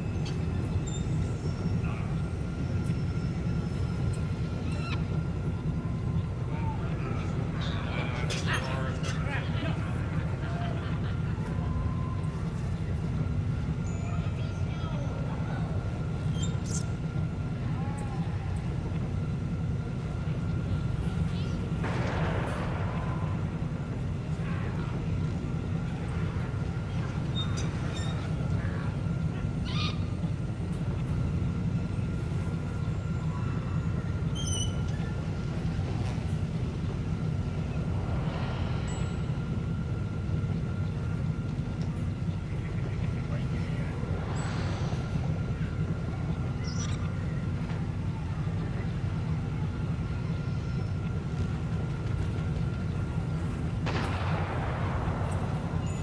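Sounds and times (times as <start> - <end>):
low mechanical drone: 0.0 - 56.0
thin steady whine: 0.0 - 56.0.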